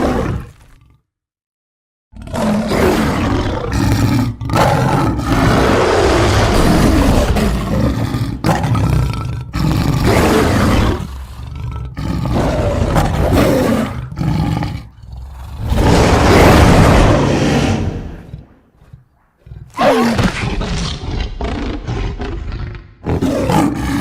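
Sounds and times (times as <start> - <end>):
creature roars and growls: 0.0 - 1.0, 2.2 - 24.0.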